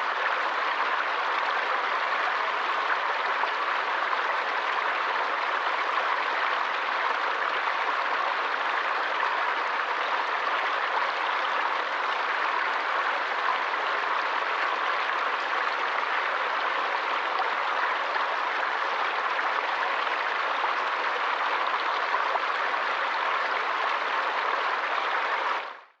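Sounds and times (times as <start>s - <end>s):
water rushing along stream: 0.0s - 25.9s.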